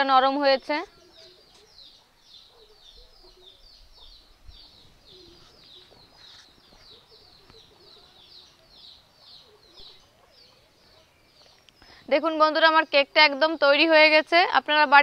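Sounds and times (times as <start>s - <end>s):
fainter lower bird calls: 0.8s - 14.1s.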